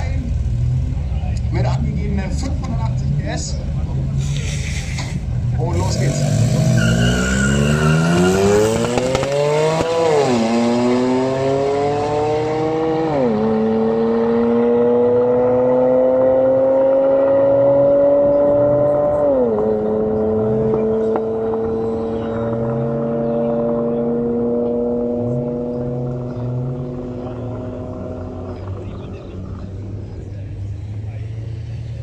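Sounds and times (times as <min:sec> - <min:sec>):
car engines accelerating hard: 0:00.0 - 0:32.0.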